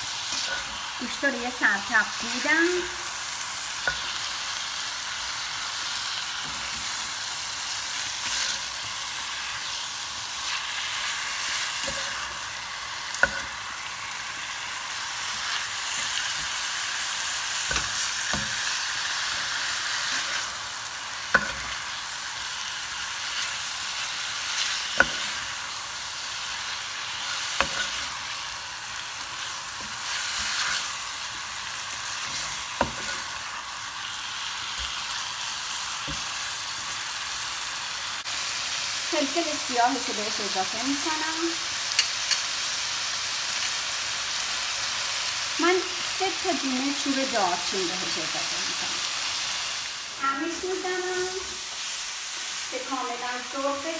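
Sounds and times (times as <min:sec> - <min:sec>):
meat sizzling in a pan: 0:00.0 - 0:53.9.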